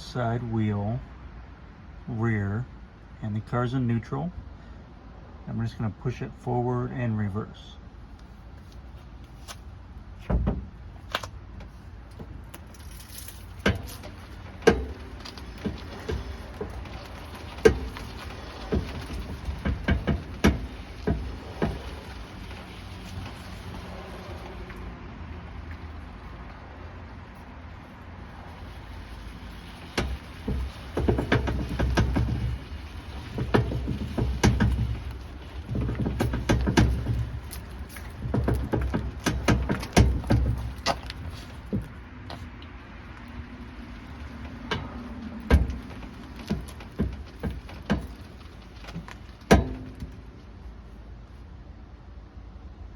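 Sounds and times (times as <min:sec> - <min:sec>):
car suspension creaks and clunks: 0:08.0 - 0:51.8.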